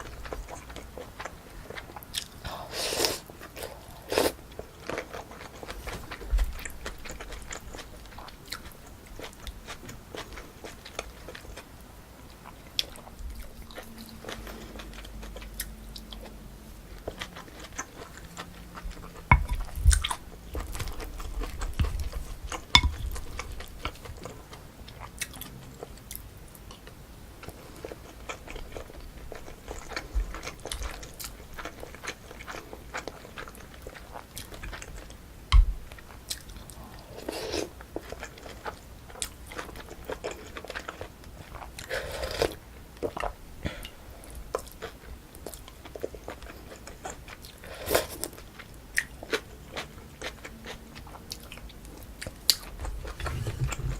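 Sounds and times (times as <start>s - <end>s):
person chewing food: 0.0s - 53.9s.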